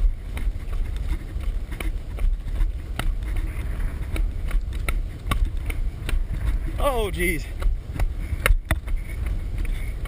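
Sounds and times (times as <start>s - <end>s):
muffled wind buffeting: 0.0s - 10.0s.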